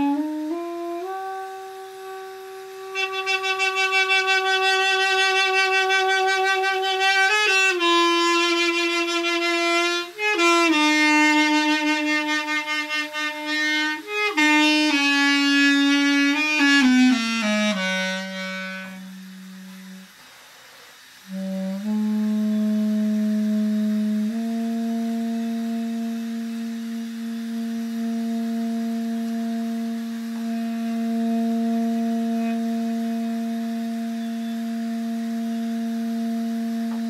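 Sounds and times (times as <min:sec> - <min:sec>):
duduk melody: 0:00.0 - 0:20.0, 0:21.3 - 0:37.0.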